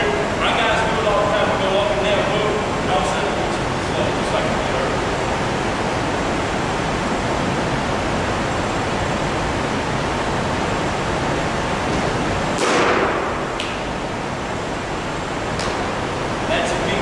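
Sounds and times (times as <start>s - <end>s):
room noise hiss: 0.0s - 17.0s.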